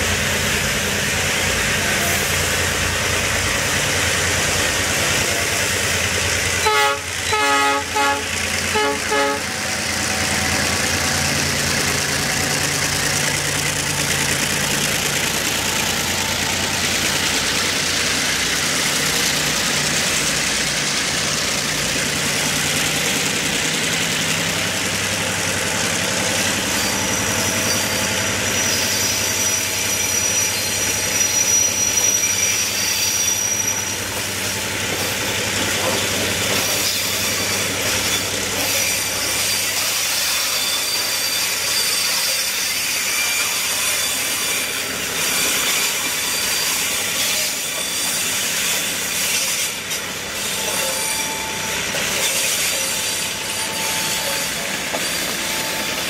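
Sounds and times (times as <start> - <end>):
train wheels rumbling on rails: 0.0 - 56.0
high wheel squeal: 0.9 - 56.0.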